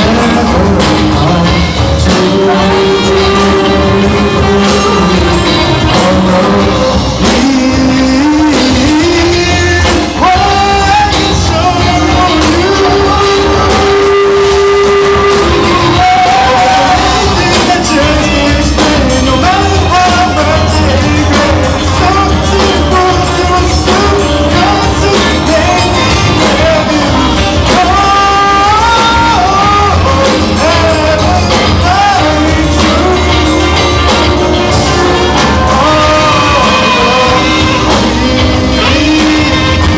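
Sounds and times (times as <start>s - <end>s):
live band playing with singing: 0.0s - 39.9s.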